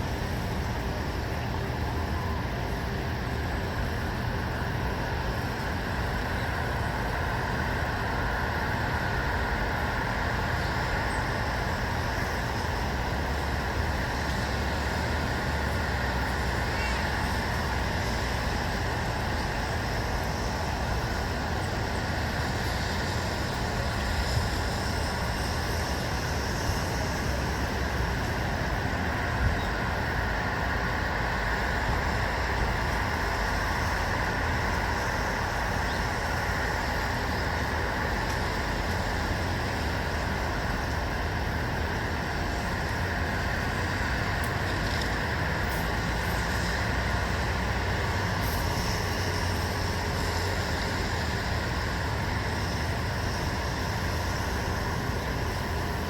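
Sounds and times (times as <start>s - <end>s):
distant road traffic hum: 0.0s - 56.0s.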